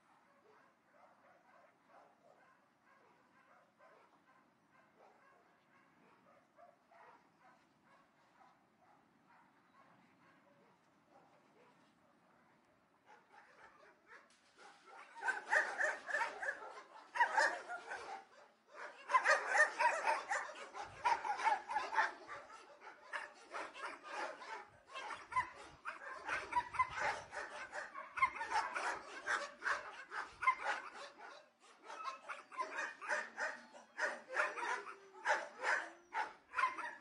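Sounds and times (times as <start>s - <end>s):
distant dogs barking: 0.0s - 37.0s.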